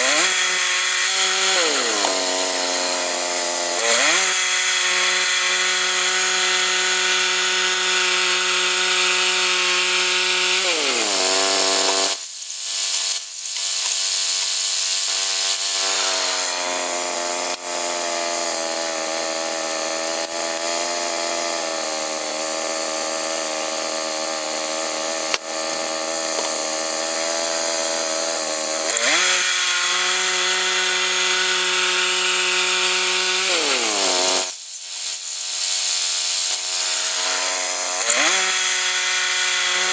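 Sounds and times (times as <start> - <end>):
gas-engined saw running: 0.0 - 39.9.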